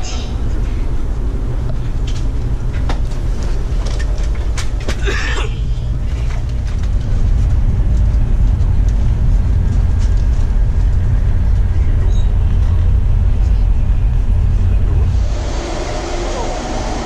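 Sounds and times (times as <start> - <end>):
train carriage low rumble: 0.0 - 17.0.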